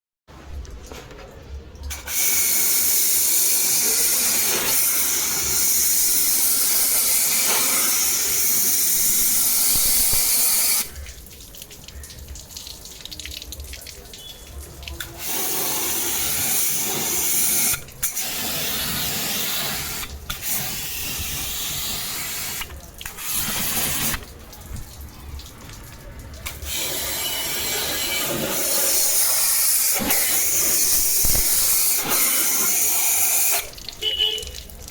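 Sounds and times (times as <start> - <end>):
water spray hissing: 1.9 - 12.0, 14.2 - 34.6.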